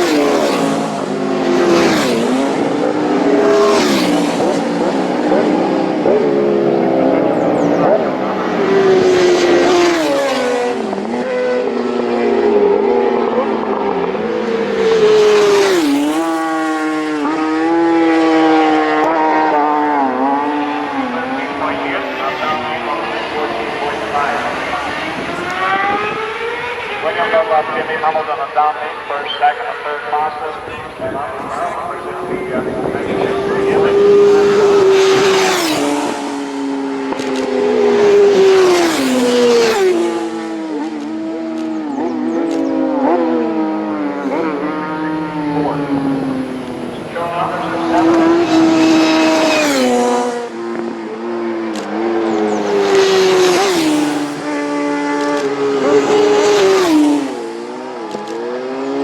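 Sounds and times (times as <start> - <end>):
racing motorcycle passing by: 0.0 - 59.0
superbike engines at high revs: 0.0 - 59.0.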